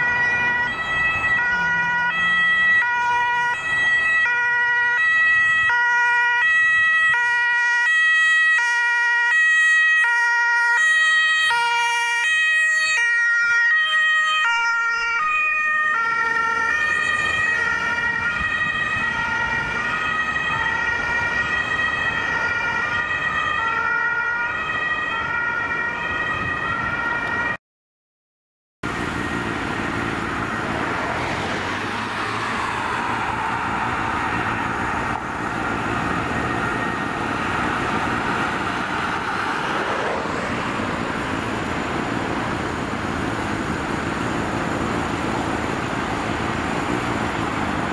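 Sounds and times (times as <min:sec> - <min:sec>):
two-tone emergency siren: 0:00.0 - 0:27.6, 0:28.8 - 0:47.9
vehicle engine and tyre noise: 0:00.0 - 0:27.6, 0:28.8 - 0:47.9.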